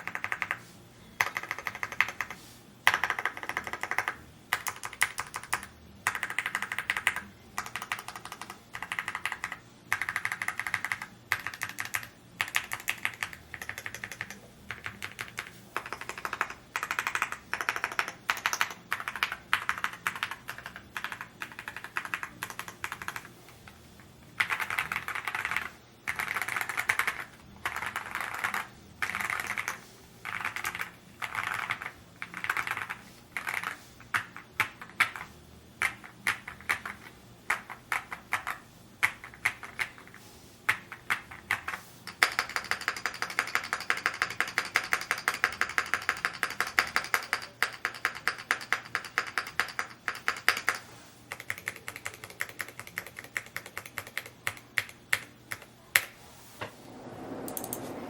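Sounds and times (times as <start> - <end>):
mechanical keyboard typing: 0.0 - 0.6, 1.2 - 23.8, 24.4 - 56.1.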